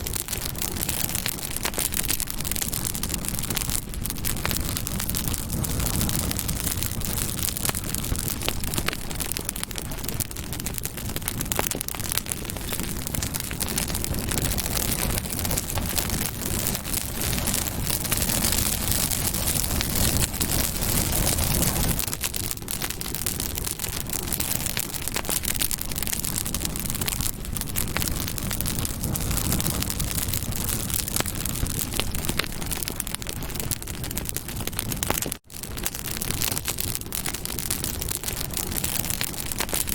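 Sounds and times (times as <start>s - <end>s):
fire flames rushing: 0.0s - 39.9s
wood crackling and popping: 0.0s - 39.9s.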